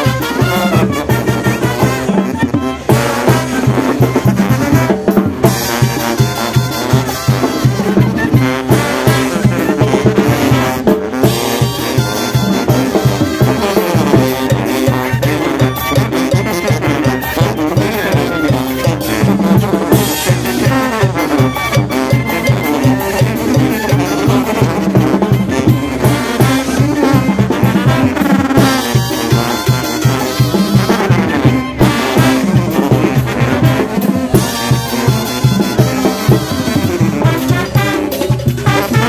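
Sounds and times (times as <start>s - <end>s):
brass band playing dance music: 0.0s - 39.0s.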